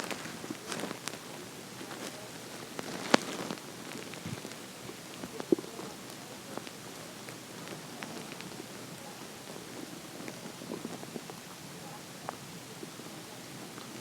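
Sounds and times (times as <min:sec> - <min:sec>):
stomach gurgling: 0:00.0 - 0:14.0.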